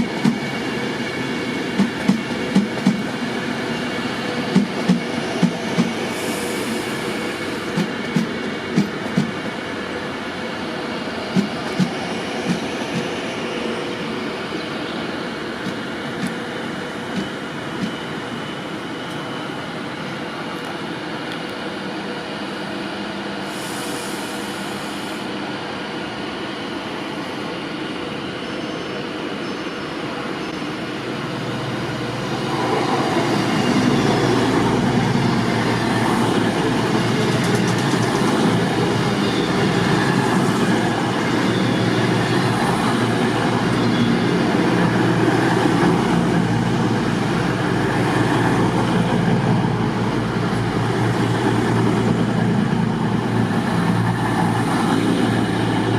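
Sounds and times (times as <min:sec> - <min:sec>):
train rumbling: 0:00.0 - 0:28.4, 0:30.0 - 0:55.9.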